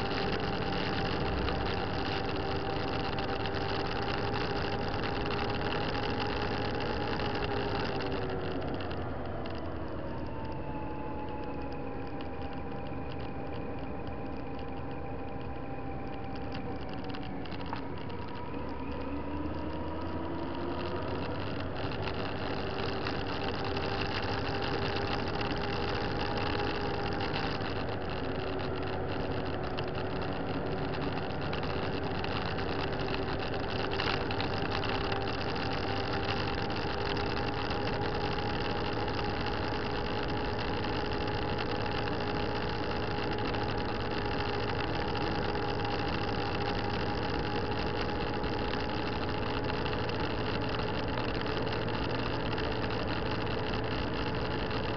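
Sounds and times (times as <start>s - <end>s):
wind and road noise: 0.0s - 54.9s
motorcycle engine running: 10.7s - 54.9s.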